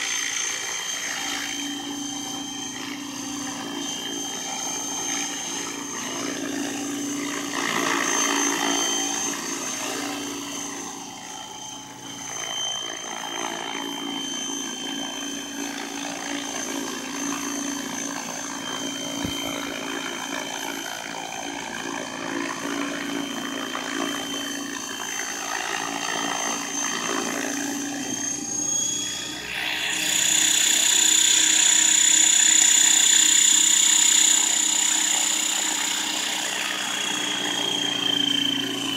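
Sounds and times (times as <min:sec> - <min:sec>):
model helicopter motor whine: 0:00.0 - 0:38.9
rotor whir: 0:00.0 - 0:38.9.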